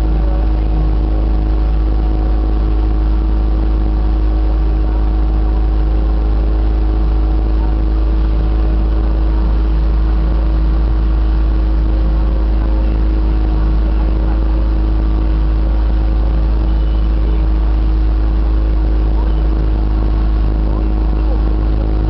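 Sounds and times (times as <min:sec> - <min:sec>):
motorboat engine rumbling: 0:00.0 - 0:22.0.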